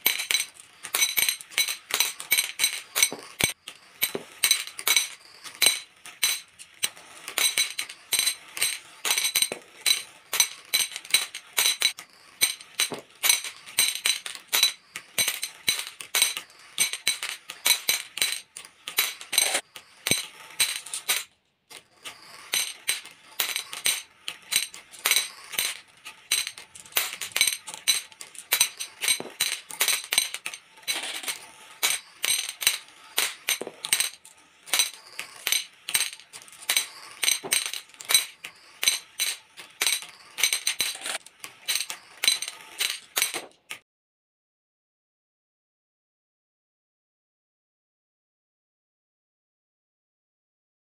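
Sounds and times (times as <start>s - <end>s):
glass marbles clinking: 0.0s - 43.5s.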